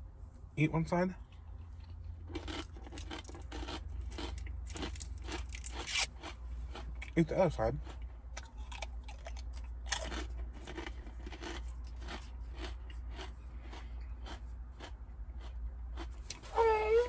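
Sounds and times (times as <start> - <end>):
crunching and chewing cookie: 1.2 - 16.5.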